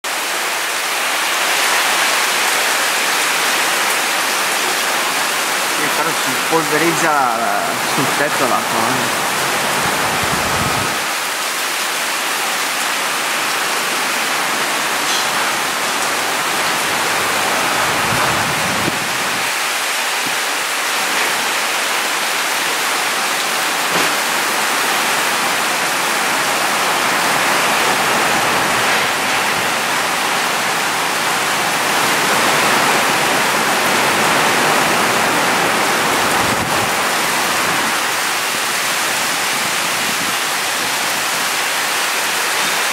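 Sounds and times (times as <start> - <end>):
heavy rain on metal roofs: 0.0 - 42.9.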